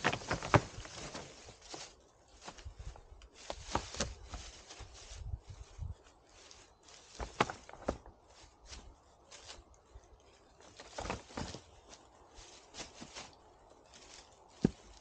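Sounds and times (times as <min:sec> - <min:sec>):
footsteps crunching in dry leaves: 0:00.0 - 0:15.0.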